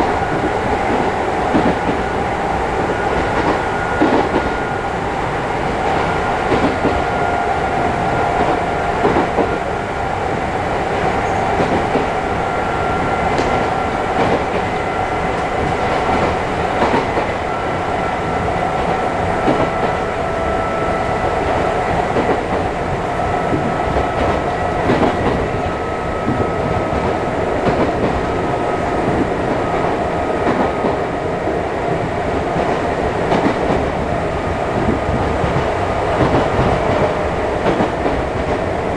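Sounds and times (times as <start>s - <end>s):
rail joint clicks: 0.0s - 38.9s
train wheels rumbling: 0.0s - 38.9s.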